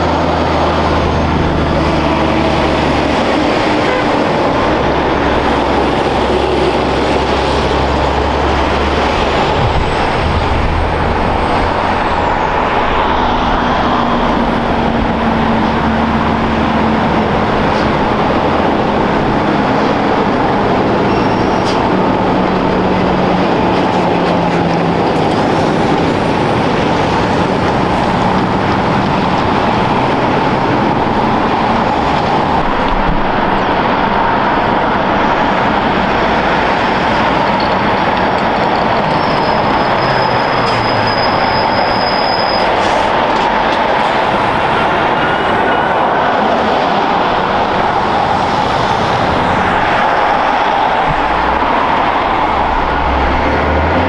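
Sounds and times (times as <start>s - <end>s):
trucks driving past: 0.0s - 54.0s.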